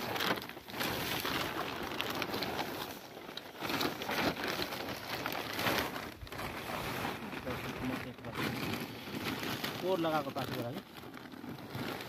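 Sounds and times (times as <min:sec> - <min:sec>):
plastic tarp rustling: 0:00.0 - 0:12.0.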